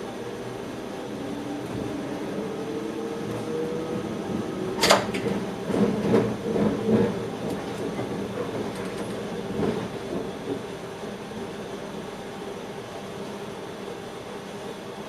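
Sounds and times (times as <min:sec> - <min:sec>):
train hum: 0:00.0 - 0:15.0.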